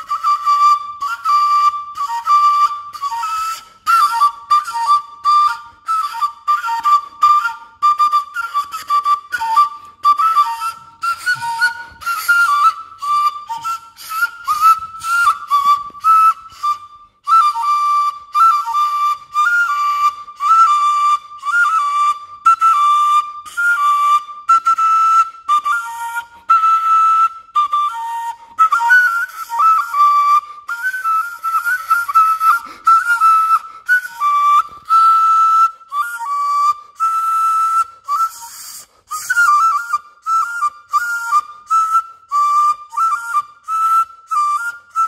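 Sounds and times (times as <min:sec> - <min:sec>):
small whistle blown in breathy notes: 0:00.0 - 0:45.0.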